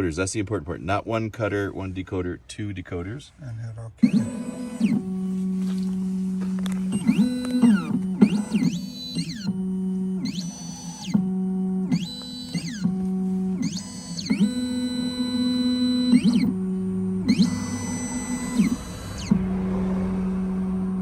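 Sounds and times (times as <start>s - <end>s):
stepper motors whining: 4.0s - 21.0s.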